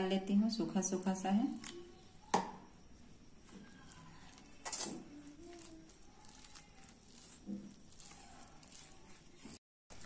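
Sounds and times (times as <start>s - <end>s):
spoon stirring thick batter: 1.6s - 10.0s.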